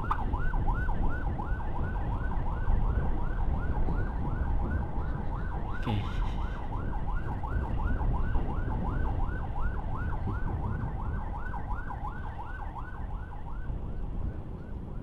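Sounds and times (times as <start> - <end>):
siren yelping: 0.0 - 14.2
wind and road rumble: 0.0 - 15.0.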